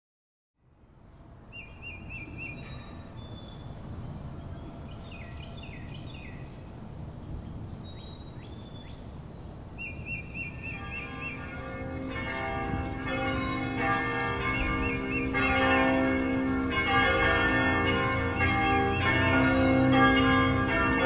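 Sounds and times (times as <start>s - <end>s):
songbirds chirping and trilling: 0.9s - 21.0s.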